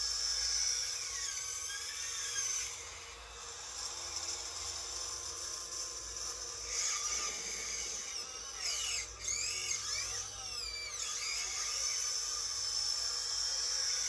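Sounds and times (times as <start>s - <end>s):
hydraulic drive whining: 0.0s - 14.0s.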